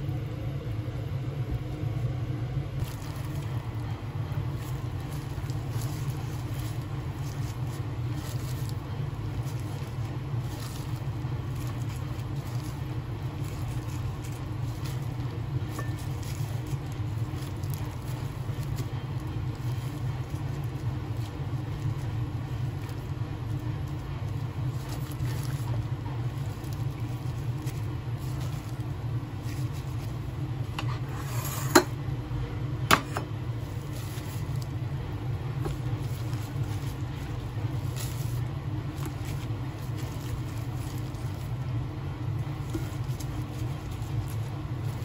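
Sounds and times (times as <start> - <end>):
plastic glove rustle: 0.0 - 45.0
steady low hum: 0.0 - 45.0.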